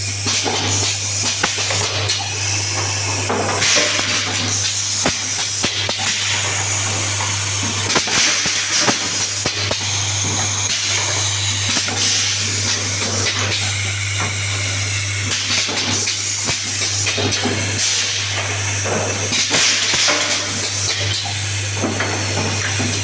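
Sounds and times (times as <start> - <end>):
machine humming and hissing: 0.0 - 23.0.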